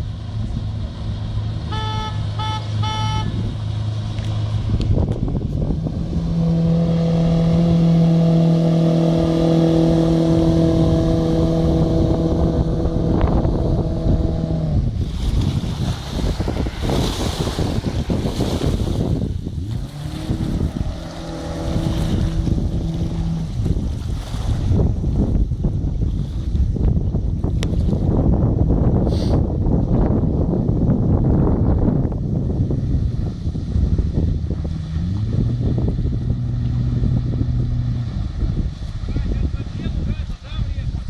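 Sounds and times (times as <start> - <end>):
outboard engine humming: 0.0 - 41.0
water rushing against hull: 0.0 - 41.0
wind buffeting microphone: 0.0 - 41.0.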